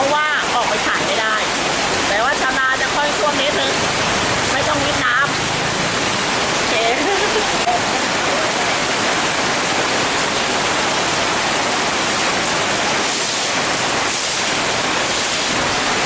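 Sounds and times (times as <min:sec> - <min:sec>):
heavy rain on pavement: 0:00.0 - 0:16.0.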